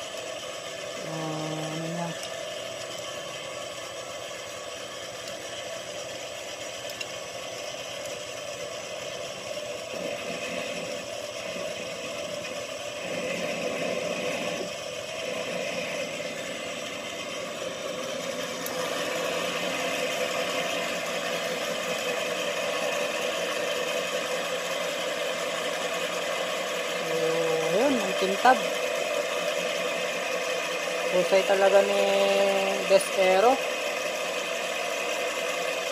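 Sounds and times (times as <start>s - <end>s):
metal lathe cutting: 0.0s - 35.9s.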